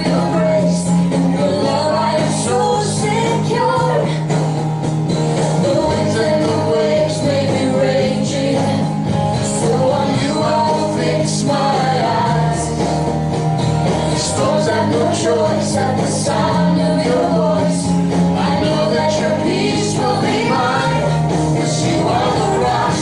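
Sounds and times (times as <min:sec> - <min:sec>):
people singing: 0:00.0 - 0:04.5, 0:05.3 - 0:23.0
bass line: 0:00.0 - 0:23.0
guitar: 0:00.0 - 0:23.0.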